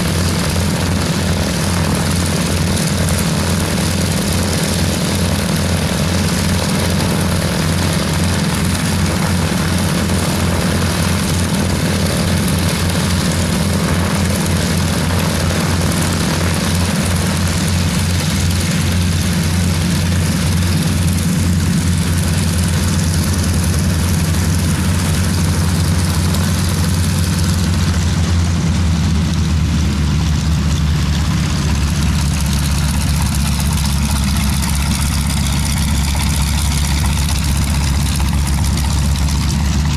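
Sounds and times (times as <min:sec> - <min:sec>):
propeller engines idling: 0:00.0 - 0:39.9.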